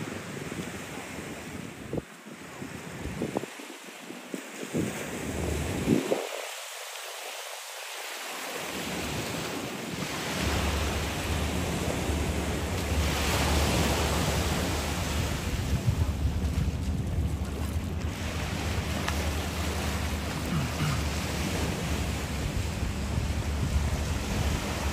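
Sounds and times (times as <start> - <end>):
wind buffeting microphone: 0.0 - 6.5, 8.7 - 24.9
surf washing onto beach: 0.0 - 24.9.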